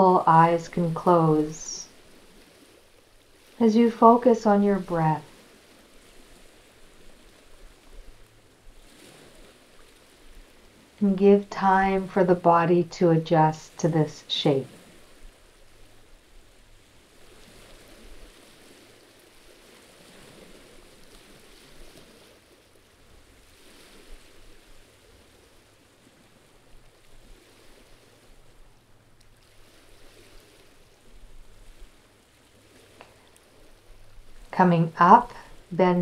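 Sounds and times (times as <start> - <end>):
water lapping on rocky shore: 0.0 - 36.0.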